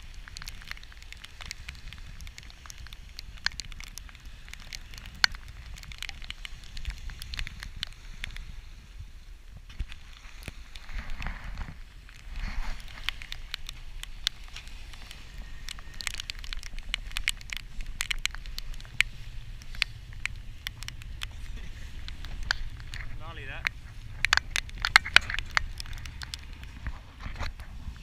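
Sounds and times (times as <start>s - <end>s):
sharp ticks and crackles: 0.0s - 8.8s, 9.6s - 28.0s
wind buffeting microphone: 0.0s - 28.0s.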